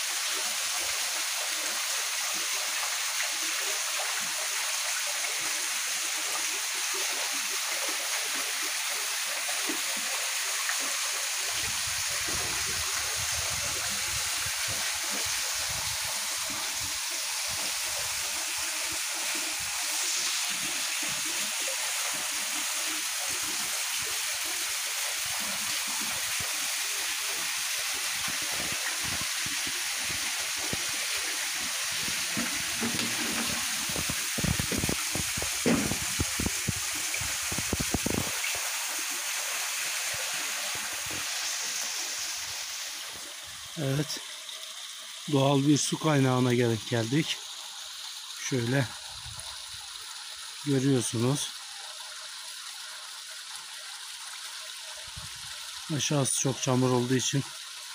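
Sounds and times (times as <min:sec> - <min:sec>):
small waterfall splashing on rocks: 0:00.0 - 0:57.9.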